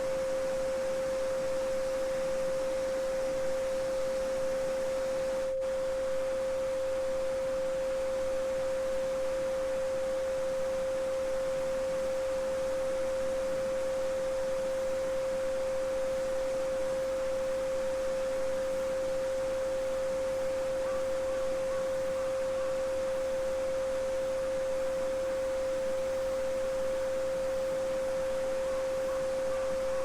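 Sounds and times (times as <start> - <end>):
pure sine tone: 0.0 - 30.0.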